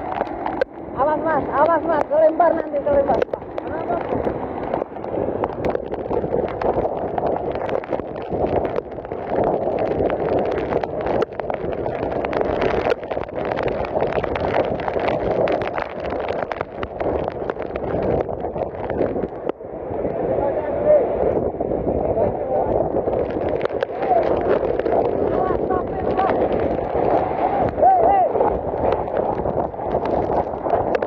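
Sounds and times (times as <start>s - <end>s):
storm wind buffeting microphone: 0.0s - 31.0s.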